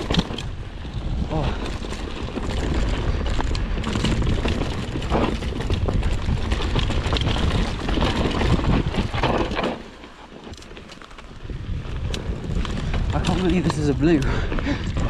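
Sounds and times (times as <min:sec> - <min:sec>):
wind rushing over microphone: 0:00.0 - 0:09.7, 0:11.3 - 0:15.0
bike clicks and rattles: 0:00.0 - 0:15.0
tyres crunching over stones: 0:00.0 - 0:15.0.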